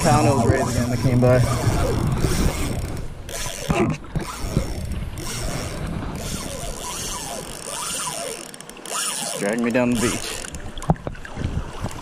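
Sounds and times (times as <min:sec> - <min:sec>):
fishing reel drag buzzing: 0:00.1 - 0:10.8.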